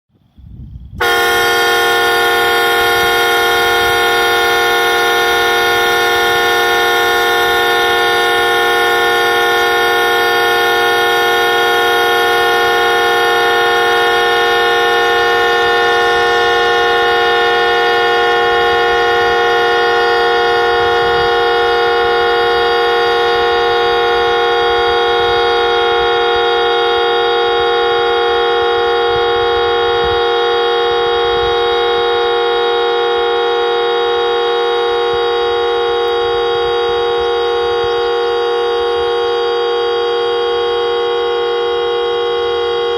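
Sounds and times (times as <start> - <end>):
train horn blast: 1.0 - 42.9.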